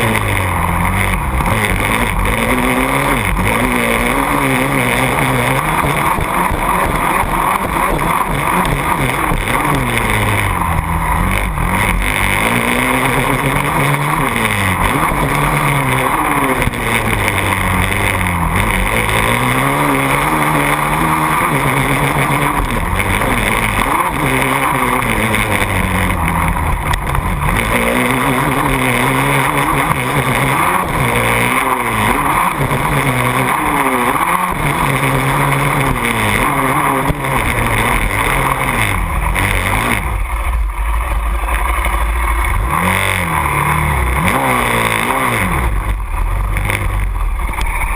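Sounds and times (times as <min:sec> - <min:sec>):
quad engine revving: 0:00.0 - 0:47.9.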